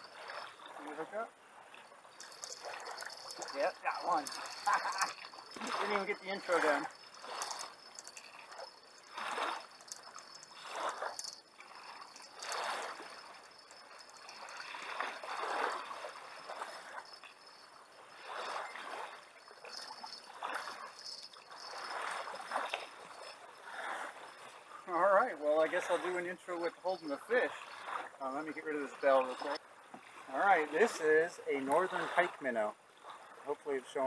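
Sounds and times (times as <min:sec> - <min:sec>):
small waves lapping: 0:00.0 - 0:34.0.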